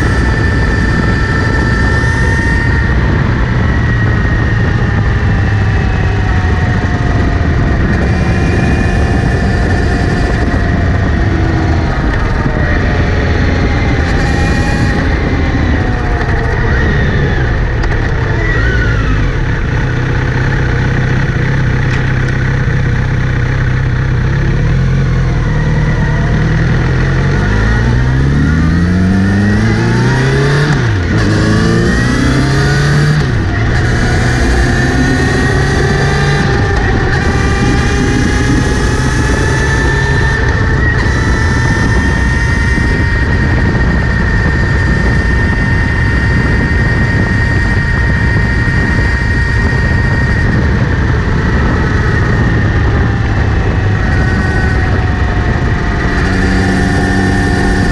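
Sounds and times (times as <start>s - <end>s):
high-pitched drivetrain whirr: 0.0s - 57.9s
motorcycle engine accelerating: 0.0s - 57.9s.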